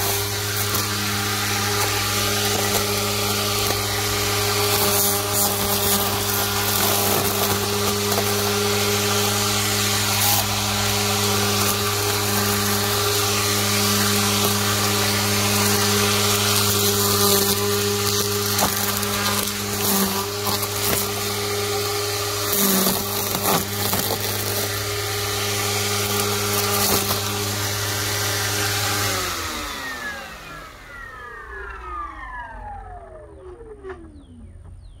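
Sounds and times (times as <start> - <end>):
trimmer hitting debris: 0.0 - 29.1
trimmer line whipping through grass: 0.0 - 34.9
string trimmer motor whining: 0.0 - 35.0.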